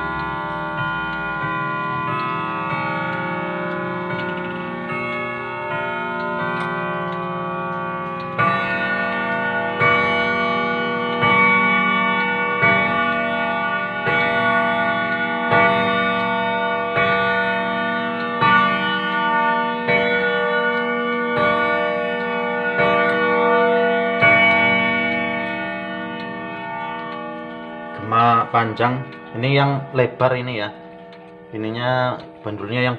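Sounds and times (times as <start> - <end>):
grandfather clock striking gong: 0.0 - 32.9.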